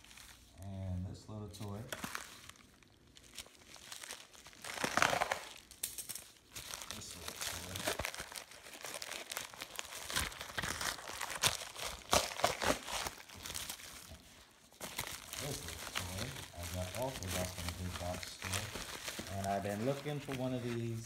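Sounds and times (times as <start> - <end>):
plastic bag crinkling: 0.0 - 0.6, 1.6 - 21.0.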